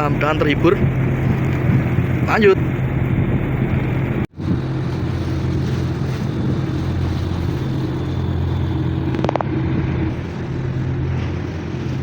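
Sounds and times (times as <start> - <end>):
boat diesel engine humming: 0.0 - 12.0.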